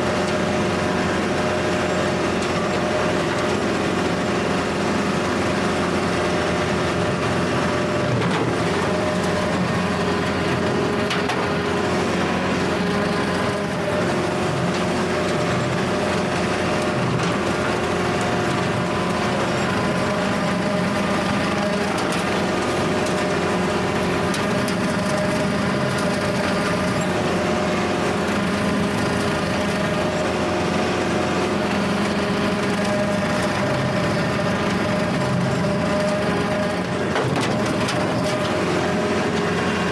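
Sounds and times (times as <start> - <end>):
rotary cutter cutting grass: 0.0 - 39.9
tractor diesel engine running: 0.0 - 39.9.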